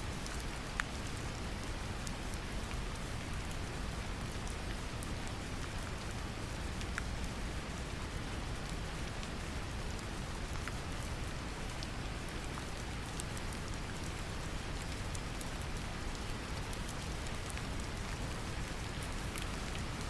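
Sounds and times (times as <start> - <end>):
gentle rain: 0.0 - 20.0.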